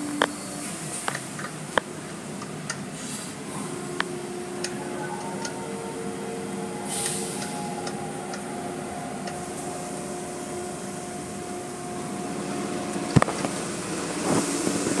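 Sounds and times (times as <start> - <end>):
car wash machinery hum: 0.0 - 15.0.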